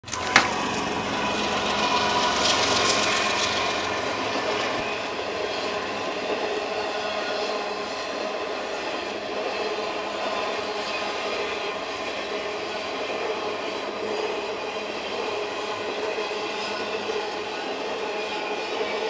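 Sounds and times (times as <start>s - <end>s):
freight train wheels on track: 0.0s - 19.0s.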